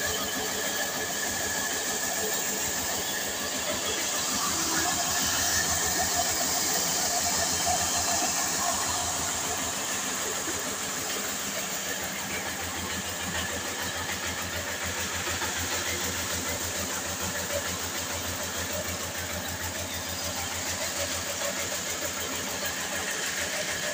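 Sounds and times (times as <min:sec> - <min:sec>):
stone flour mill running: 0:00.0 - 0:23.9.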